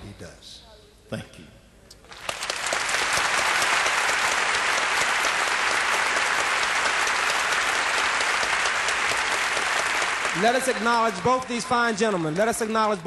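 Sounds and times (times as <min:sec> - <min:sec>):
audience applauding: 0:02.0 - 0:13.0.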